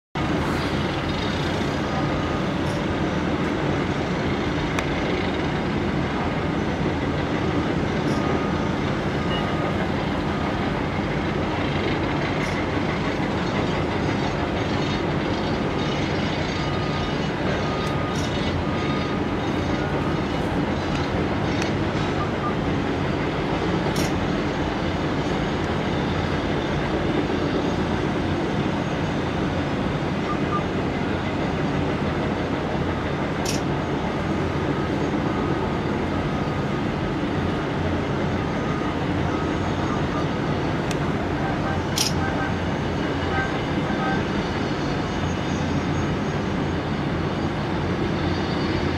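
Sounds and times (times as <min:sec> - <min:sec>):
heavy diesel machinery rumbling: 0:00.2 - 0:48.9.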